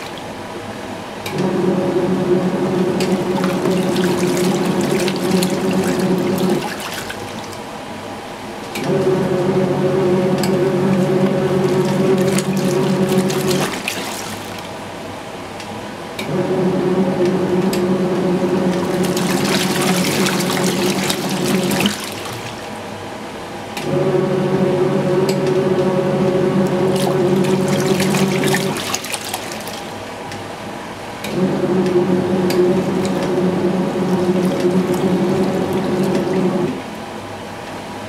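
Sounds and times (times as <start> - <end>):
soapy water sloshing: 0.0 - 0.5, 1.4 - 7.8, 8.8 - 14.9, 16.3 - 22.9, 23.9 - 30.3, 31.3 - 37.0
washing machine motor humming: 0.0 - 38.0.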